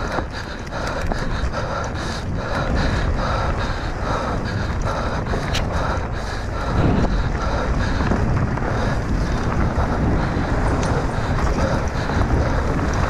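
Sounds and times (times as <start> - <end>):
low rumble from trail: 0.0 - 13.0
wind rushing over microphone: 0.0 - 13.0.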